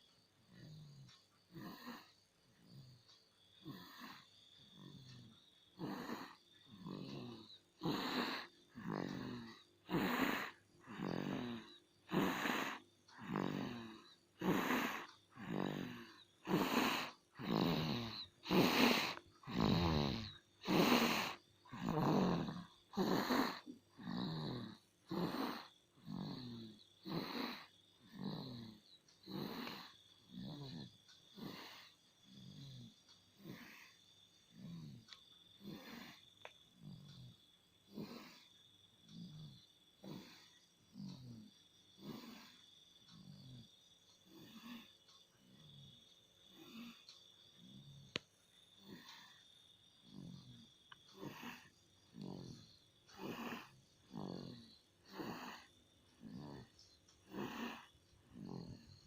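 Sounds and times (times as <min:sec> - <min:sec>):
child snoring: 0:00.0 - 0:59.0.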